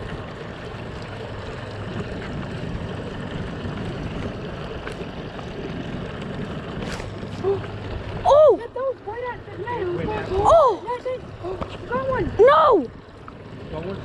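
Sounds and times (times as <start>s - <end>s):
low even rumble: 0.0s - 14.0s
water noise around boat: 0.0s - 14.0s
wind: 0.0s - 14.0s.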